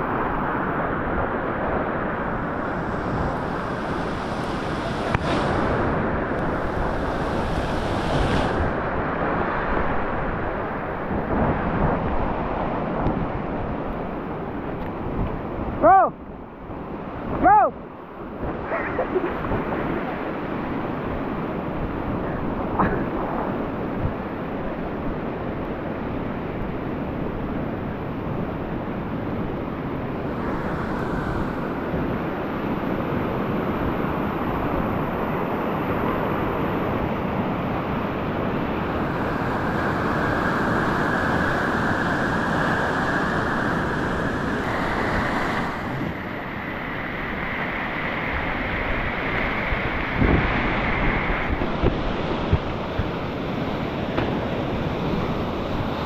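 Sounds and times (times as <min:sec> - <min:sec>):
rushing whitewater: 0:00.0 - 0:14.8, 0:16.9 - 0:56.0
wind noise on microphone: 0:00.0 - 0:17.5, 0:18.1 - 0:56.0.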